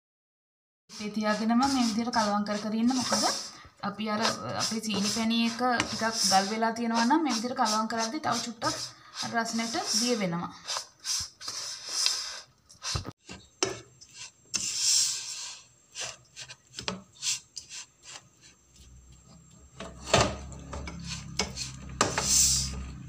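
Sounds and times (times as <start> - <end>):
wooden spoon scraping a pan: 0.9 - 23.0.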